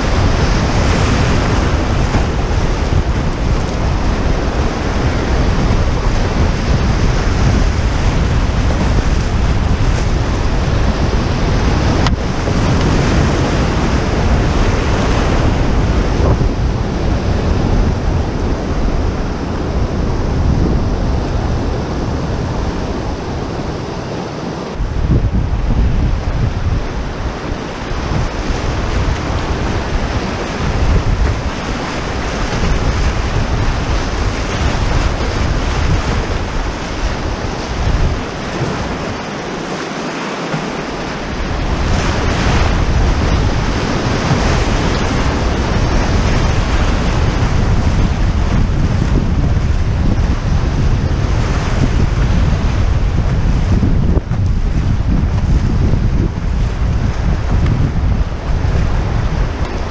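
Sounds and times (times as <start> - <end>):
whitewater rapids roaring: 0.0 - 59.9
wind buffeting microphone: 0.0 - 59.9.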